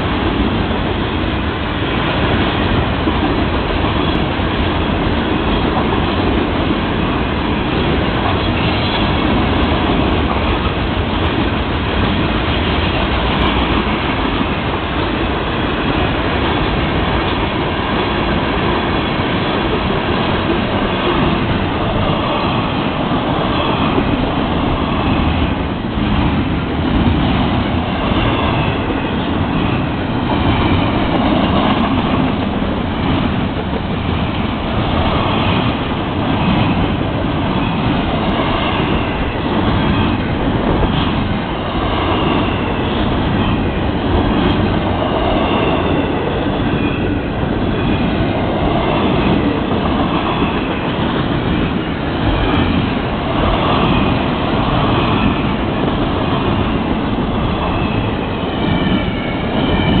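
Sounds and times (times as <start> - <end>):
freight train cars rumbling past: 0.0 - 60.0.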